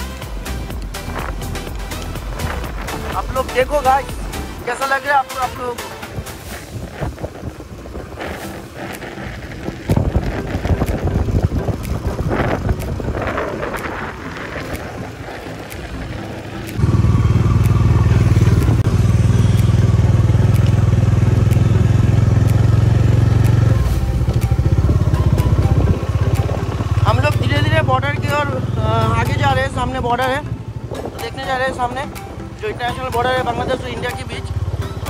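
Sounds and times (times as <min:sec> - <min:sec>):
motorcycle engine running: 0:00.0 - 0:35.0
scooter riding on rough track: 0:04.8 - 0:31.6, 0:32.3 - 0:35.0.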